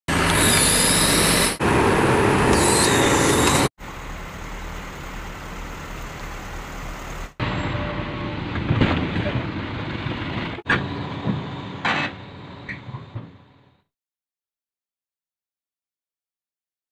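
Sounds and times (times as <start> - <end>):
heavy vehicle engine: 0.1 - 13.8.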